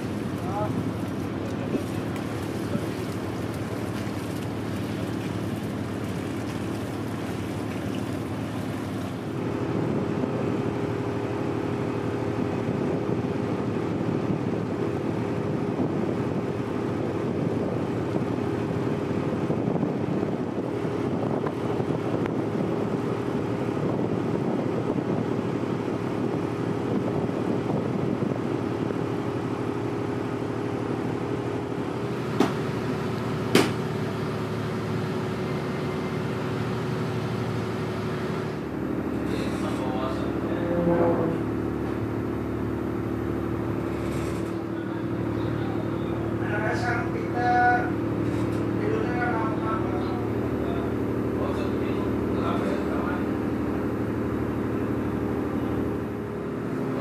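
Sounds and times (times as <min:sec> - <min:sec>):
boat diesel engine humming: 0:00.0 - 0:57.0.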